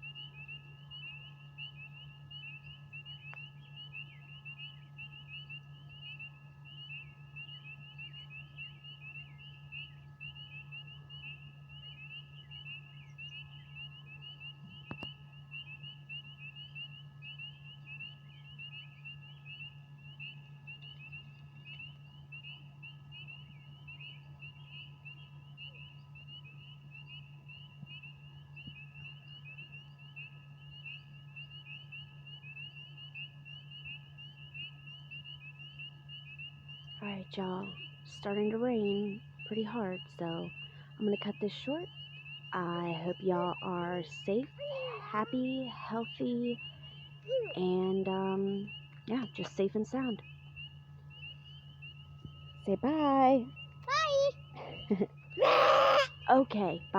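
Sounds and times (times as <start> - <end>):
frogs chirping: 0.0 - 56.9
low hum: 0.0 - 56.9.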